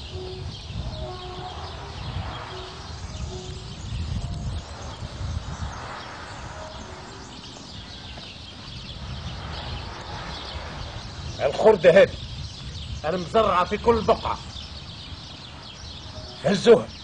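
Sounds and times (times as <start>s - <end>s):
low rumble of outdoor noise: 0.0s - 17.0s.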